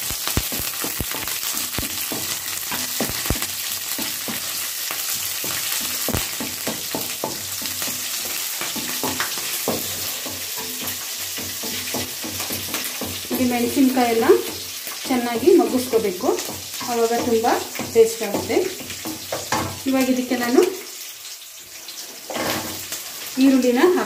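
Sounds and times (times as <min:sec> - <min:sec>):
chillies sizzling in oil: 0:00.0 - 0:24.0
wooden spatula knocking pan: 0:00.4 - 0:20.2.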